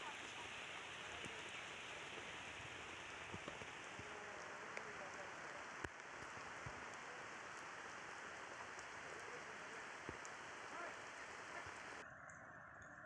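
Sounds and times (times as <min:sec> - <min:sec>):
raindrop ticks: 0:00.0 - 0:13.0
steady rain falling: 0:00.0 - 0:13.0.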